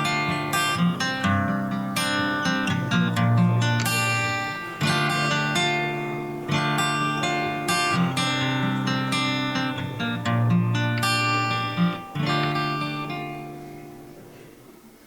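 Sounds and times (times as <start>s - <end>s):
acoustic guitar strumming chords: 0.0s - 14.6s.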